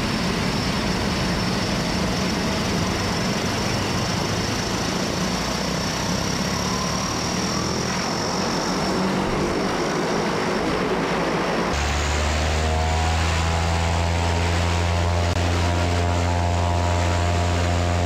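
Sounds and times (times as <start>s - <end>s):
high turbine whine: 0.0s - 18.0s
turboprop engine drone: 0.0s - 18.0s.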